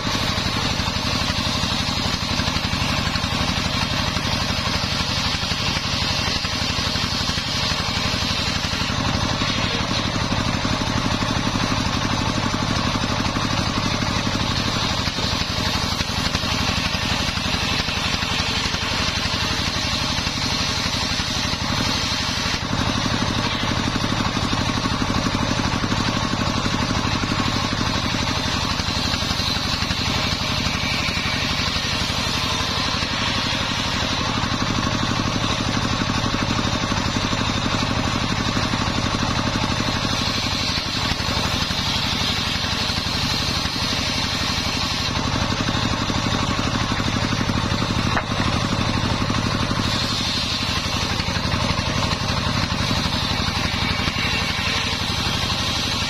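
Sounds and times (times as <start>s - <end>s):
saw blade ripping wood: 0.0s - 56.0s
table saw motor hum: 0.0s - 56.0s.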